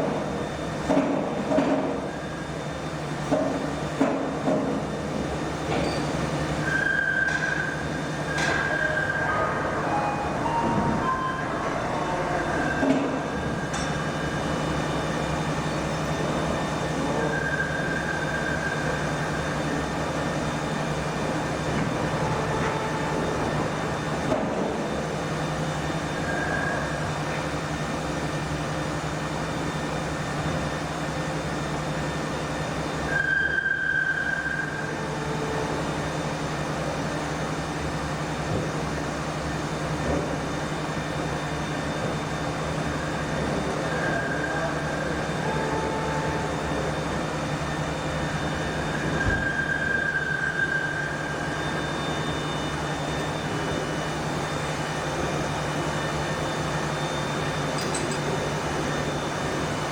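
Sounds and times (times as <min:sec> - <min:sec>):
machinery hum: 0:00.0 - 0:59.9.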